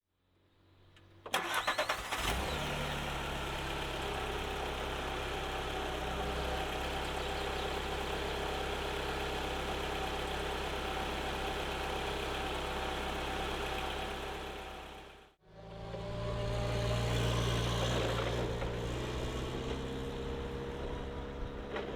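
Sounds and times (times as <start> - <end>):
forklift engine starting and idling: 1.2 - 21.9.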